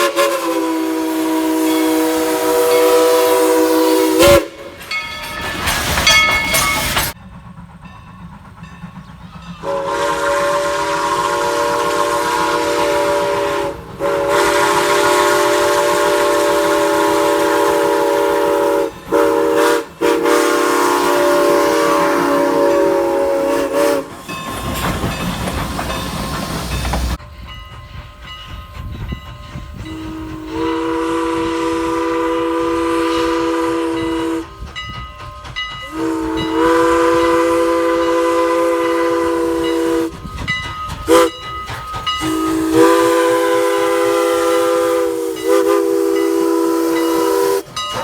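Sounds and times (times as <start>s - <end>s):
steam locomotive chime whistle: 0.0s - 48.0s.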